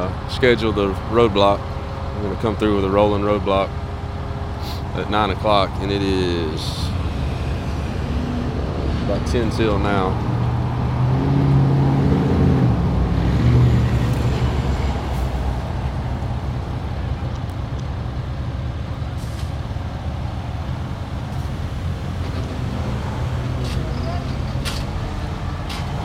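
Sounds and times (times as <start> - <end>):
heavy truck engine running: 0.0 - 26.0
roadway traffic noise: 0.0 - 26.0.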